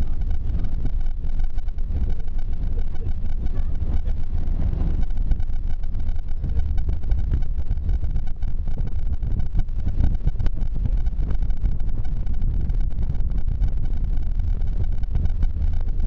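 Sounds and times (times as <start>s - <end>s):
bus engine and gravel road noise: 0.0s - 16.0s.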